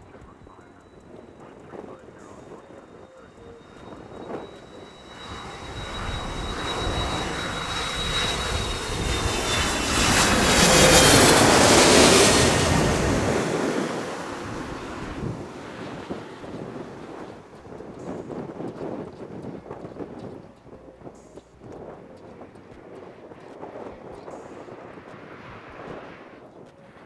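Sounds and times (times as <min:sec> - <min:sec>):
airliner engines passing: 0:00.0 - 0:27.0.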